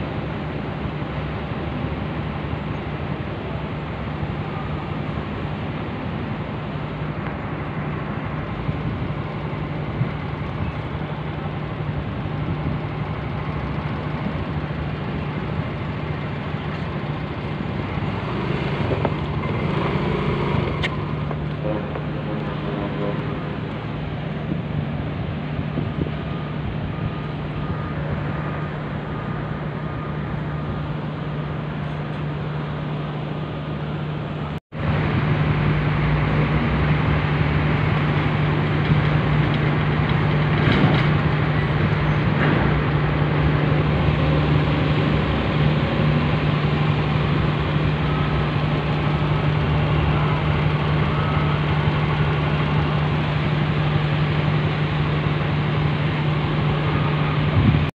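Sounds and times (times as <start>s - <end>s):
diesel truck engines idling: 0.0s - 57.9s.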